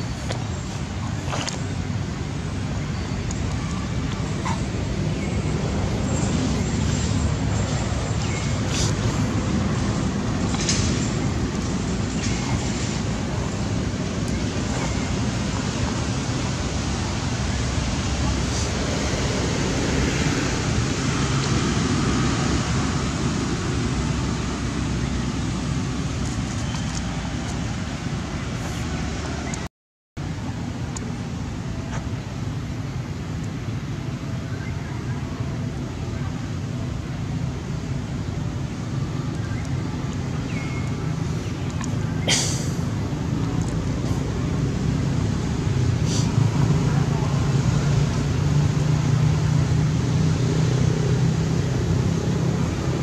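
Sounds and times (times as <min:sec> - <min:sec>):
low rumbling background noise: 0:00.0 - 0:53.0.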